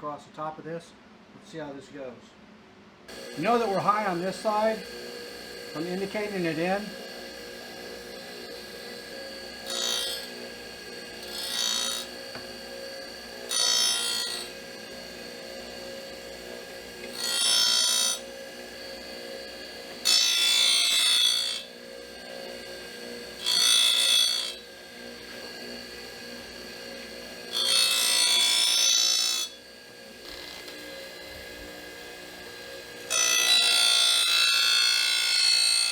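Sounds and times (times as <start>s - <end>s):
grinding wheel hissing on metal: 3.1s - 33.2s
grinder spindle humming: 3.1s - 35.9s.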